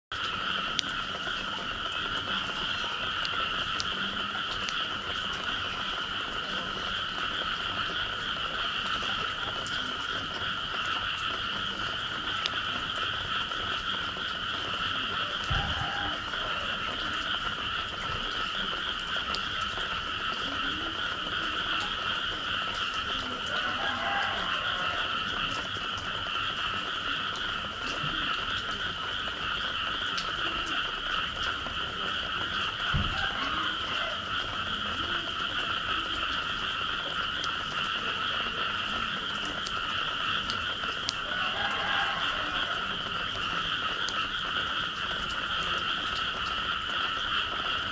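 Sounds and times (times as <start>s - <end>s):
chorus of frogs calling: 0.1s - 47.9s.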